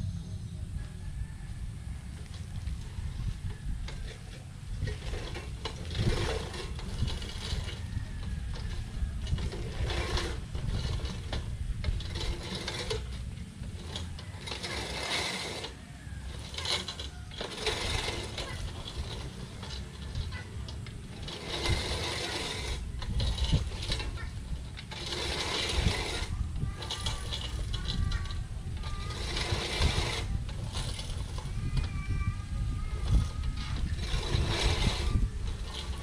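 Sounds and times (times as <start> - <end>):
reel mower blades whirring and clicking: 1.3 - 36.0.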